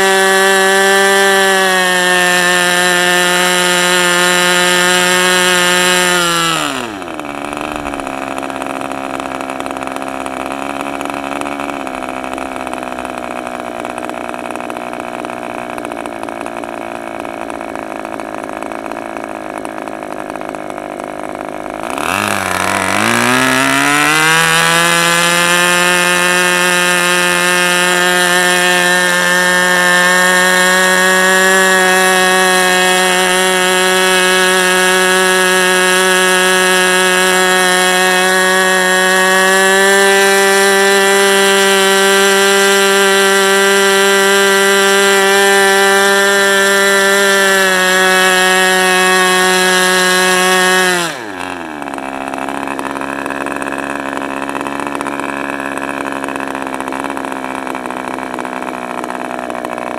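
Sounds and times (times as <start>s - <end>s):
model engine running: 0.0s - 59.9s.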